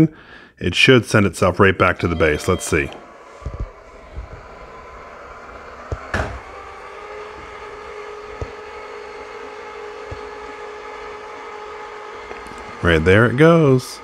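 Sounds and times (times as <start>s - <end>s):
robot vacuum motor hum: 1.9s - 14.0s.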